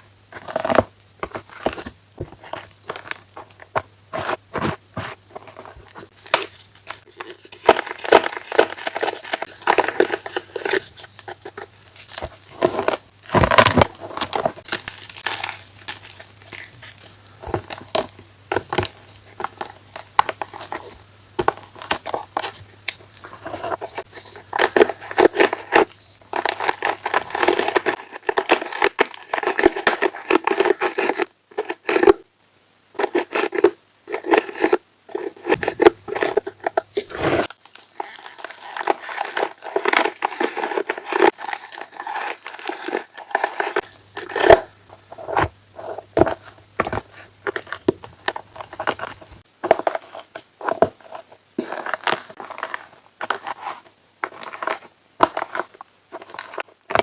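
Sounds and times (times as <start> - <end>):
chalk crunching and crumbling: 0.0 - 32.1, 33.0 - 57.0.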